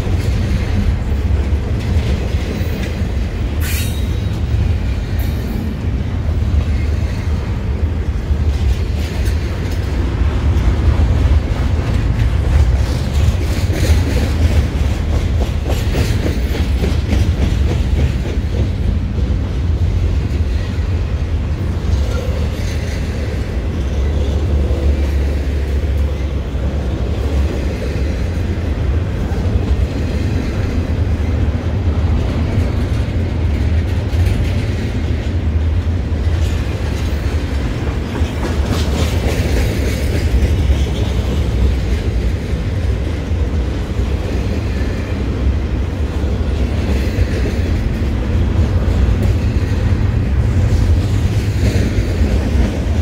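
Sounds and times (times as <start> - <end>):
freight train rumbling: 0.0 - 53.0
wheels clacking over rail joints: 0.0 - 53.0.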